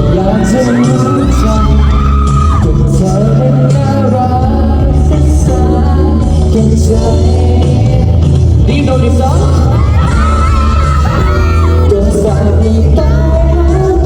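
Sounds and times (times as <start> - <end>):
heavy bass notes: 0.0 - 14.0
live pop band music: 0.0 - 14.0
person singing: 0.0 - 14.0.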